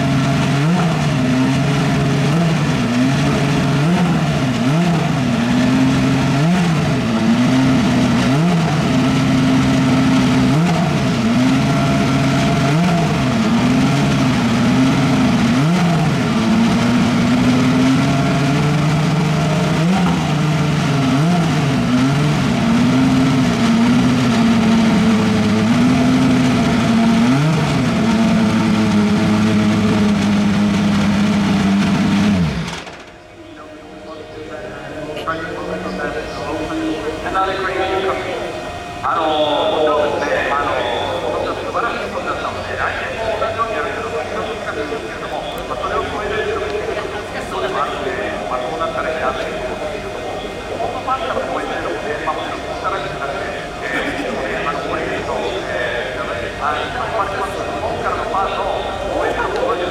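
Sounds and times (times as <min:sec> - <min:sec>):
race car engine throttle blips: 0:00.0 - 0:59.9.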